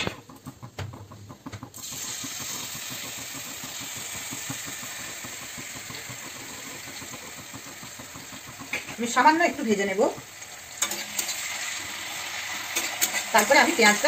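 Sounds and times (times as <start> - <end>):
garlic sizzling in hot oil: 0.0 - 14.0.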